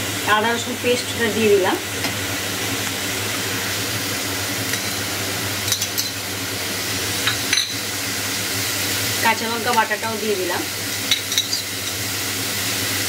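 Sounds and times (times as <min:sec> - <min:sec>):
paste sizzling in oil: 0:00.0 - 0:13.0.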